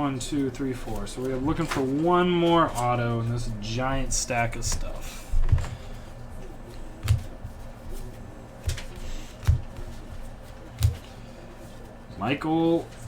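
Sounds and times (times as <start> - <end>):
cards rustling: 0.3 - 3.8, 4.5 - 12.0.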